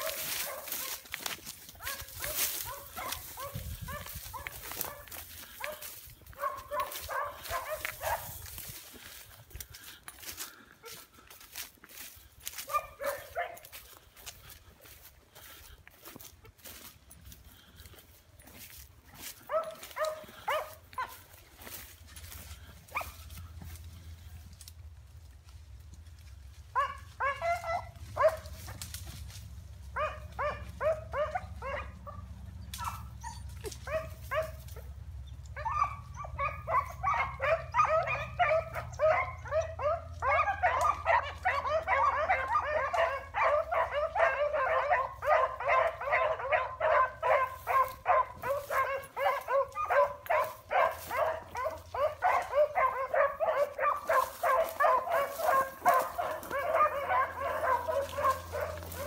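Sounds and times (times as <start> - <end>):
hounds baying: 0.0 - 24.8, 25.4 - 59.0.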